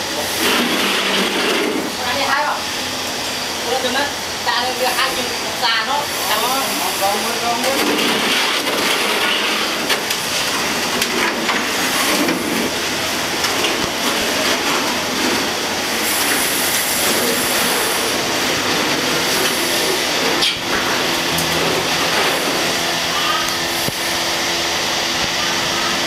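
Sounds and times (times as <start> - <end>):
loud machine noise: 0.0 - 26.0.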